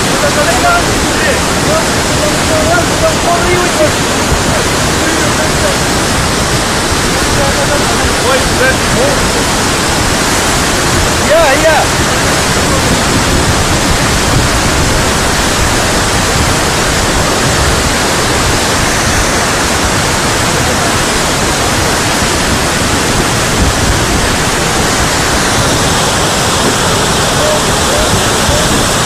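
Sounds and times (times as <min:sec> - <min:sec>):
flood water rushing: 0:00.0 - 0:29.0.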